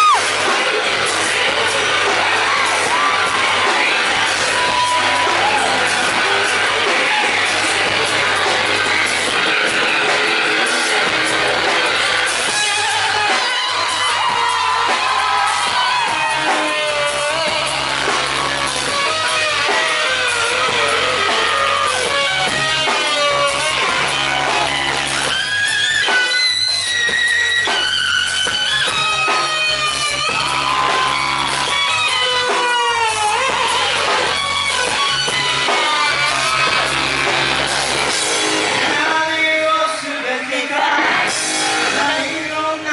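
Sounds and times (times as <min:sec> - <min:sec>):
bass line: 0:00.0 - 0:40.1, 0:40.9 - 0:42.9
drums: 0:00.0 - 0:42.9
electric guitar lead with bending notes: 0:00.0 - 0:42.9.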